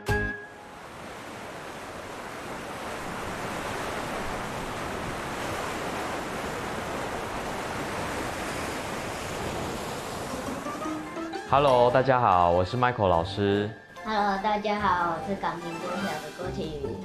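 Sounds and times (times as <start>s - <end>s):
ocean waves washing: 0.5s - 13.0s, 13.9s - 17.0s.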